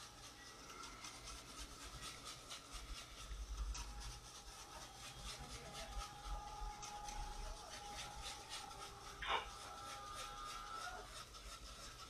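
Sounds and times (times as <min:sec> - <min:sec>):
whisk swishing in saucepan: 0:00.0 - 0:12.0.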